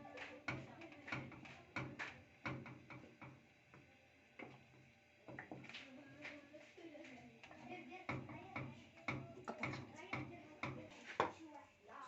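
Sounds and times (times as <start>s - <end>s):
utensil knocking and scraping pot: 0.1s - 6.4s, 7.4s - 11.5s.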